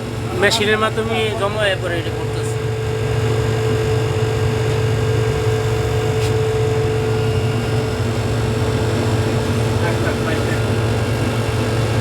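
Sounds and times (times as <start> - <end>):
constant whine: 0.0 - 12.0
dehumidifier humming: 0.0 - 12.0.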